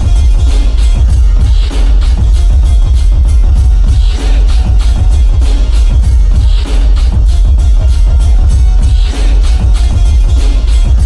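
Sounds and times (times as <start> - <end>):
trap beat with heavy sub-bass: 0.0 - 11.0.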